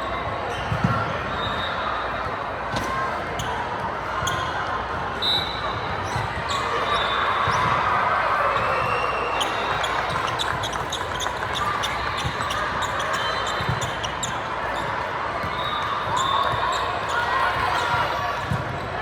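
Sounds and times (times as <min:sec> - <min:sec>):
murmur of voices: 0:00.0 - 0:19.0
sneakers squeaking: 0:00.1 - 0:03.6, 0:04.2 - 0:04.6, 0:05.2 - 0:19.0.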